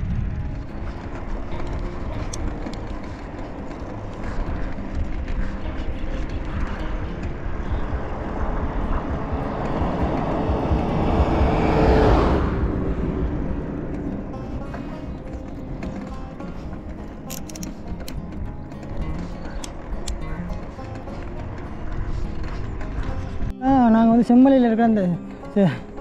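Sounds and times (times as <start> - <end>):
motor vehicle passing: 0.0 - 23.5
wind rumbling on microphone: 0.0 - 23.6.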